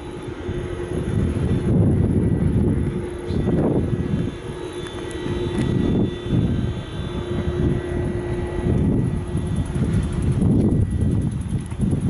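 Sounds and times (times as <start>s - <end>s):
faint high whine: 0.0s - 12.0s
locomotive blowers whirring hum: 0.0s - 12.0s.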